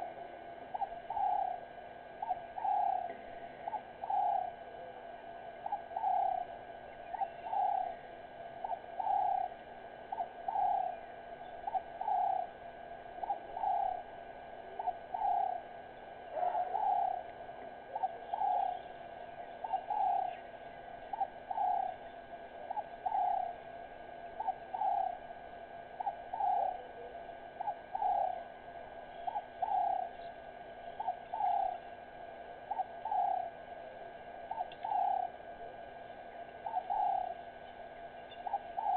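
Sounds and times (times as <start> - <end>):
bird calling: 0.0 - 38.9.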